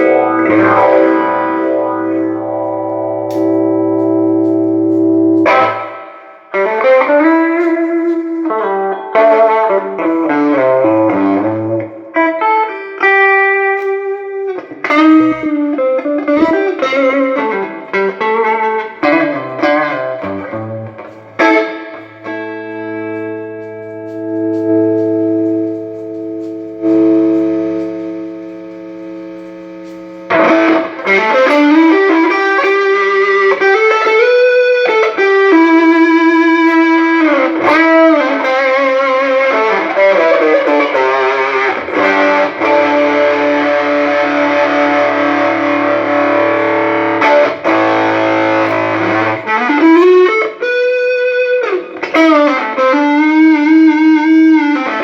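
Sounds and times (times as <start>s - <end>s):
electric guitar playing: 0.0s - 55.0s.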